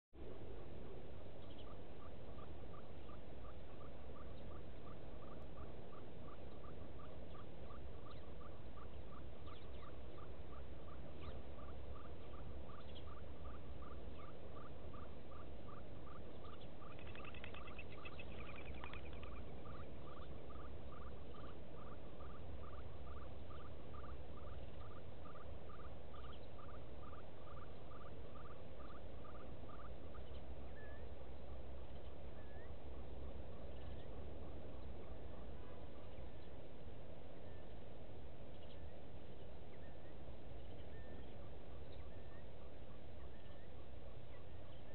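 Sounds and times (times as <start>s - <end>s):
low steady rumble: 0.2s - 44.9s
bird chirps: 1.2s - 44.9s.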